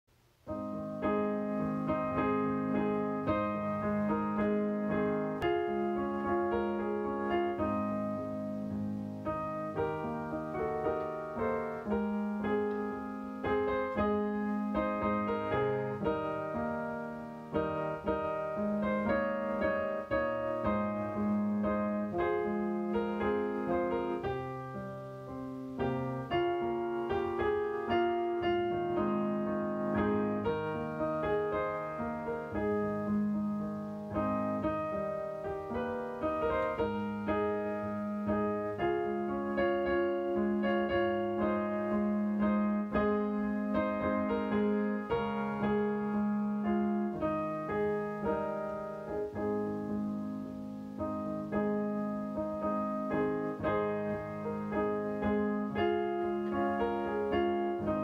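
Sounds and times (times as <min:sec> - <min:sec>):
solo piano music: 0:00.1 - 0:58.0.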